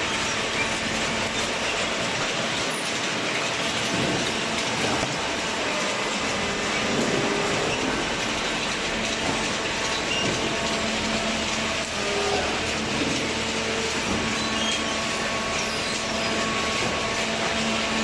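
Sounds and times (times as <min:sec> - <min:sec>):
machinery running with hum: 0:00.0 - 0:18.0.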